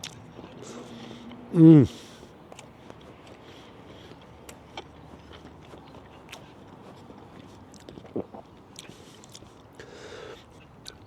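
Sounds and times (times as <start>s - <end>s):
chewing mouth clicks: 0.0s - 11.0s.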